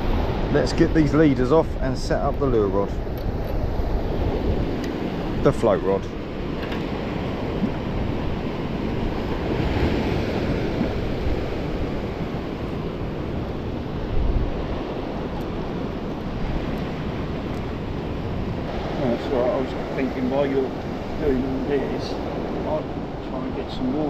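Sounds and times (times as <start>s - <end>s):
waves washing against rocky shore: 0.0s - 24.0s
wind buffeting microphone: 0.0s - 24.0s.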